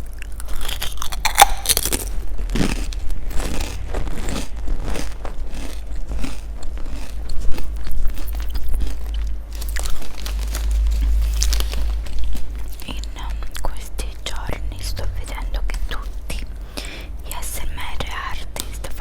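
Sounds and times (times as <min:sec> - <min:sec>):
chewing crunchy food: 0:00.0 - 0:19.0
steady low hum: 0:00.0 - 0:19.0.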